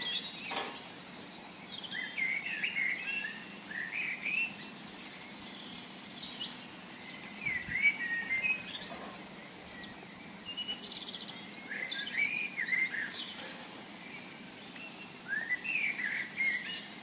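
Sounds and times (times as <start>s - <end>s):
birds chirping and warbling: 0.0s - 17.0s
faint outdoor hiss: 0.0s - 17.0s.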